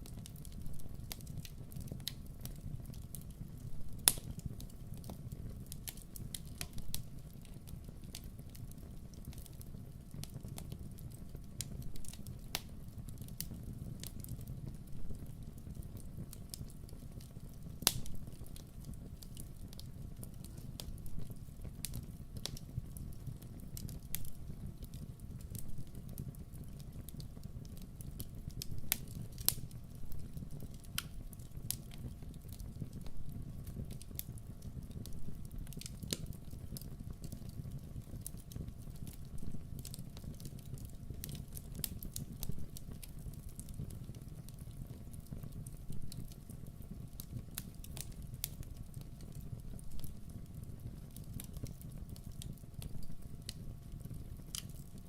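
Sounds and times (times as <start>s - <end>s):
low rumble of flames: 0.0s - 55.0s
wood crackling and popping: 0.0s - 55.0s.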